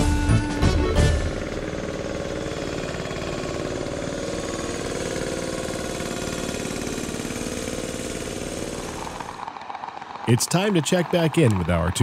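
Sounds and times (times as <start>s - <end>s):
small locomotive engine chugging: 0.0s - 12.0s.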